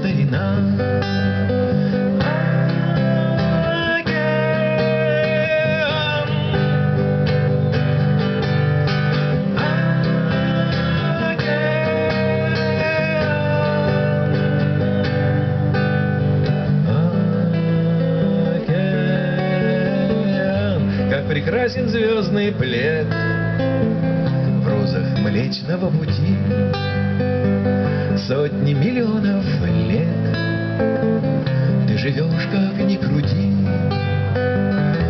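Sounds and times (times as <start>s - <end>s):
acoustic guitar playing: 0.0s - 35.0s.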